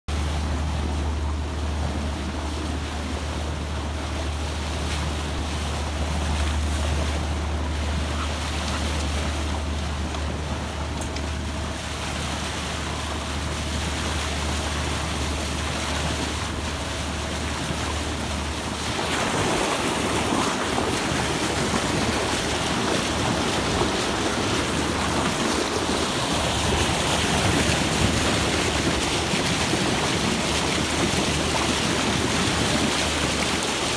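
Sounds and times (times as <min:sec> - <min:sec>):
steady low drone: 0:00.1 - 0:33.9
water rushing and splashing: 0:00.1 - 0:33.9.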